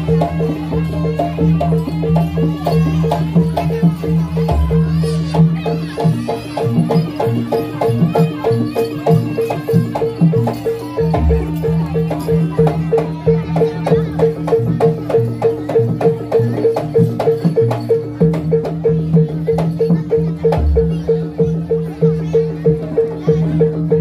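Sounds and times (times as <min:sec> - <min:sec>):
hand drum pattern: 0:00.0 - 0:24.0
pitched percussion fast pulse: 0:00.0 - 0:24.0.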